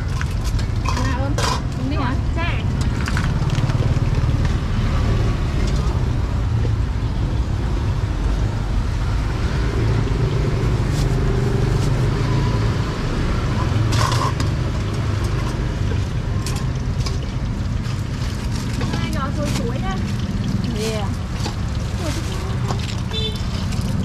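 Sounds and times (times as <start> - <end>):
low rumble of traffic: 0.0 - 24.0.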